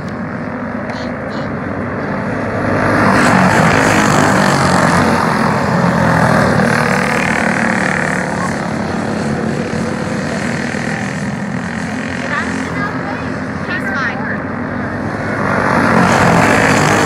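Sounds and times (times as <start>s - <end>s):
go-kart engines racing: 0.0s - 17.0s.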